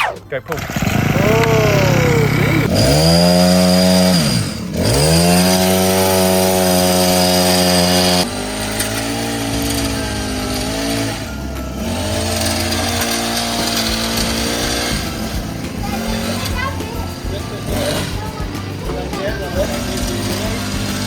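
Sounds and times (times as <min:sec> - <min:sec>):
toy chainsaw electronic engine: 0:00.5 - 0:21.0.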